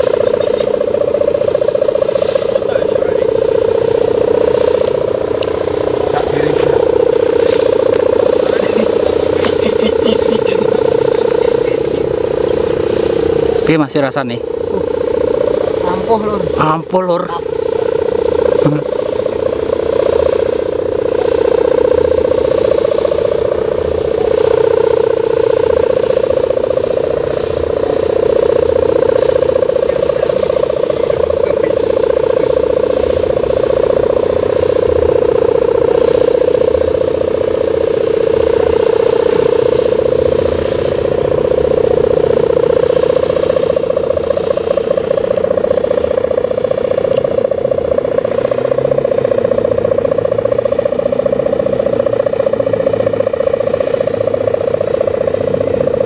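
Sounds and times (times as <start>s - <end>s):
kite hummer droning: 0.0s - 56.0s.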